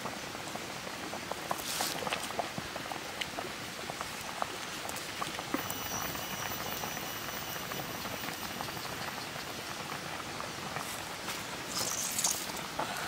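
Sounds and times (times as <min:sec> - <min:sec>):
soup boiling in a pan: 0:00.0 - 0:13.0.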